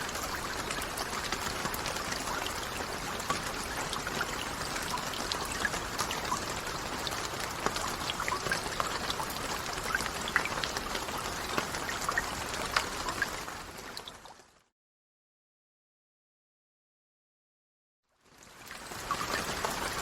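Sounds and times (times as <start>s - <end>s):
steady rain falling: 0.0s - 14.7s, 18.2s - 20.0s.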